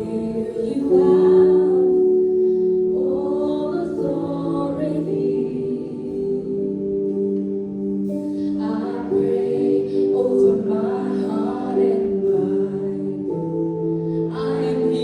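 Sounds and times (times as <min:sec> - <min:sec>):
voices singing: 0:00.0 - 0:07.5, 0:08.1 - 0:15.0
sustained chords: 0:00.0 - 0:15.0.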